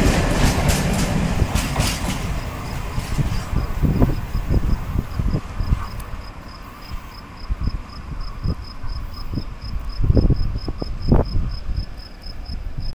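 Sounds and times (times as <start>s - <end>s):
cricket chirping: 2.3s - 12.9s.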